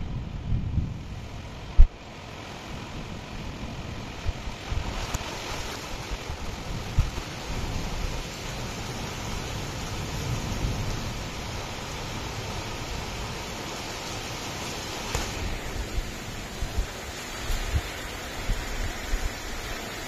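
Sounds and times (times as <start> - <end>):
rain hiss: 0.0 - 20.0
wind gusts buffeting microphone: 0.0 - 20.0.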